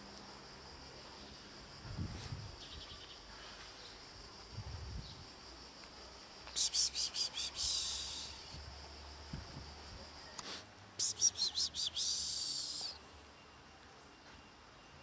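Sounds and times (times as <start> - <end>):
insect drone high thin whine: 0.0 - 15.0.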